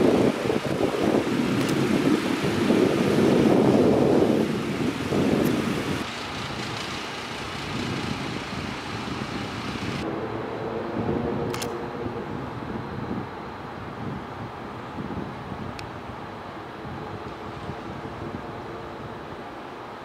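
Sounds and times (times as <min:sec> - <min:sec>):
traffic rush: 0:00.0 - 0:20.0
wind on microphone: 0:00.0 - 0:20.0.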